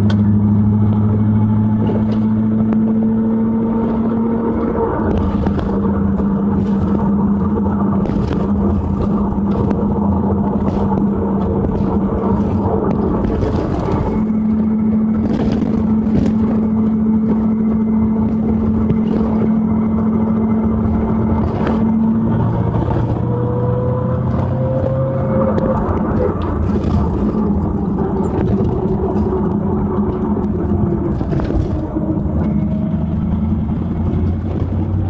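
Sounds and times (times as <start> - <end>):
car engine and road drone: 0.0 - 35.0
rising rear axle whine: 0.0 - 35.0.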